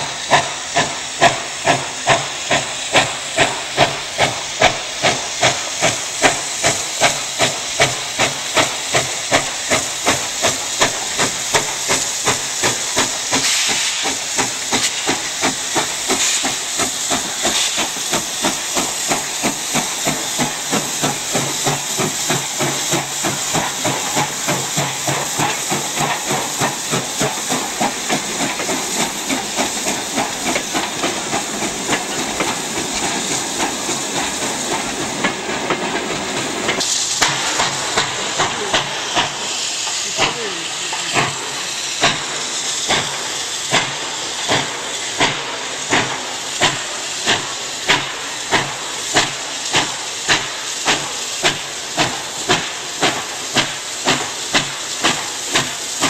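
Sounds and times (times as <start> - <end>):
steam hiss: 0.0 - 56.0
steam locomotive chuffing: 0.0 - 56.0
train running noise: 0.0 - 56.0.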